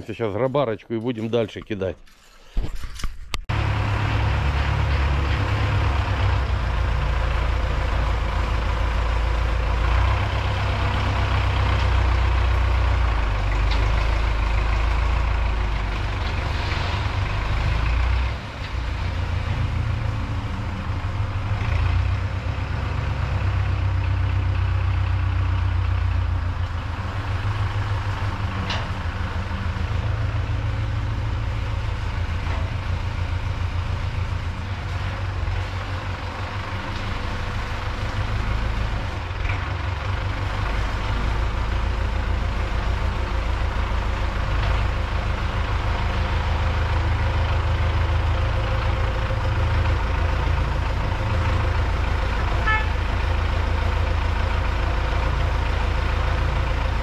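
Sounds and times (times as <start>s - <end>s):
tractor diesel engine running: 3.4s - 57.0s.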